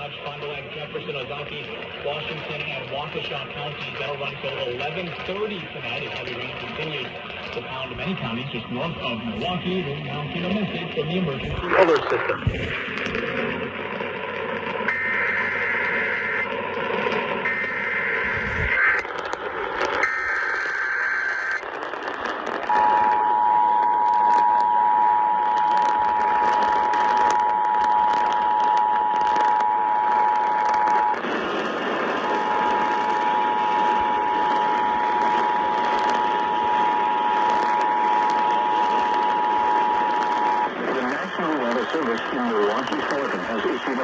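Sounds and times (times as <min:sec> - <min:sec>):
radio hiss: 0:00.0 - 0:13.4, 0:17.4 - 0:21.8, 0:26.5 - 0:44.0.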